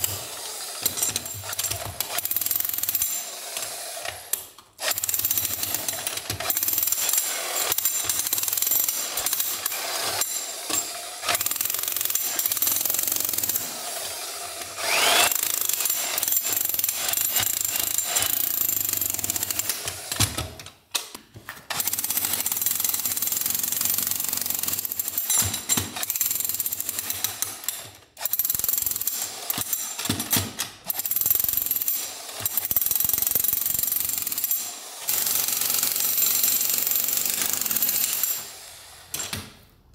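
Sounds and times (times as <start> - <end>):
demolition hammer chiselling stone: 0.0 - 3.9, 4.8 - 13.9, 14.6 - 20.6, 21.7 - 38.5.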